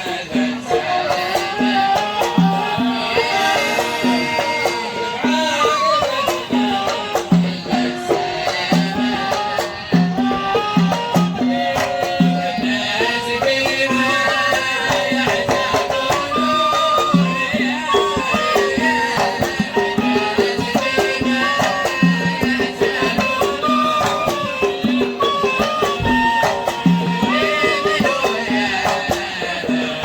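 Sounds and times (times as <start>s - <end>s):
folk band melody: 0.0s - 30.0s.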